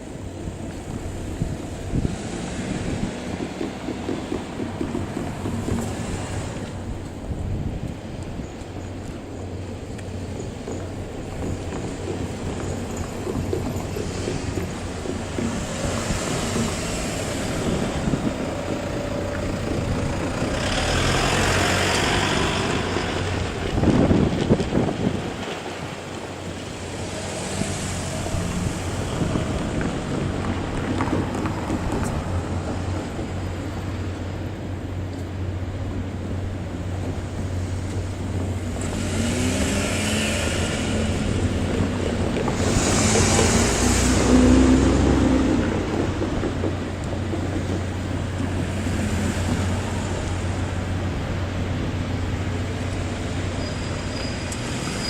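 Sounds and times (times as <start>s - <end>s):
diesel locomotive engine drone: 0.0s - 55.0s
wind buffeting microphone: 0.0s - 55.0s.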